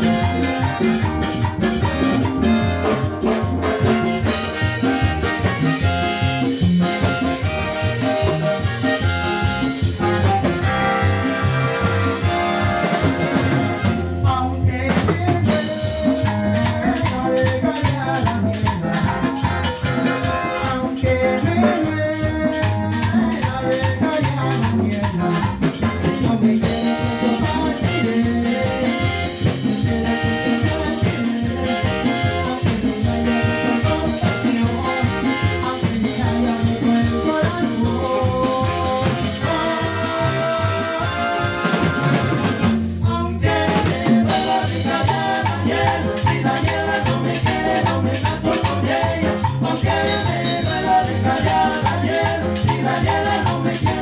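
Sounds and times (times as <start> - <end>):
latin dance band playing: 0.0 - 54.0
person singing: 9.9 - 54.0.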